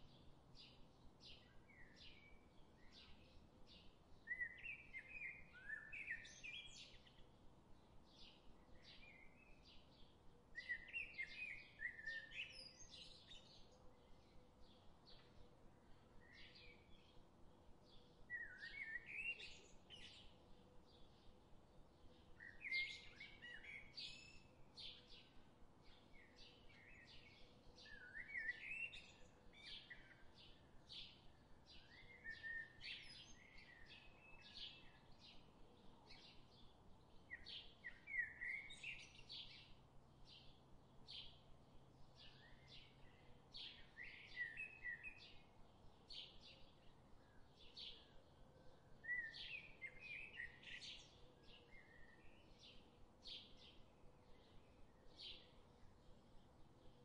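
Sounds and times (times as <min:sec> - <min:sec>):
faint bird chirps: 0:00.0 - 0:07.4, 0:08.2 - 0:17.2, 0:17.9 - 0:21.4, 0:22.0 - 0:57.0.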